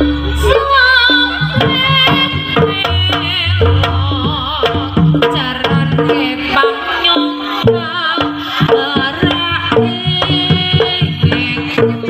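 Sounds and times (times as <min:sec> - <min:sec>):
hand drums quick rhythm: 0:01.1 - 0:12.0.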